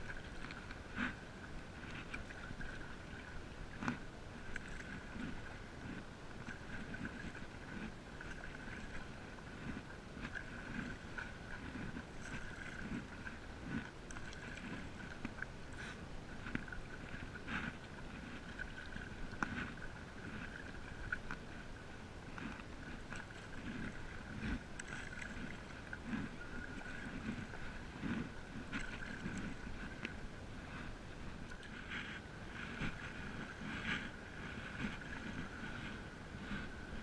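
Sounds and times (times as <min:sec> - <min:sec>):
paddle strokes through water: 0:00.0 - 0:37.0
water lapping at board: 0:00.0 - 0:37.0.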